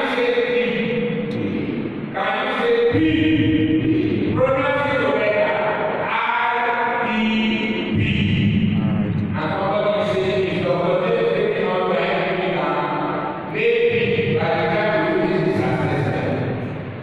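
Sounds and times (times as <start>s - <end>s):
man chanting through microphone: 0.0s - 16.9s.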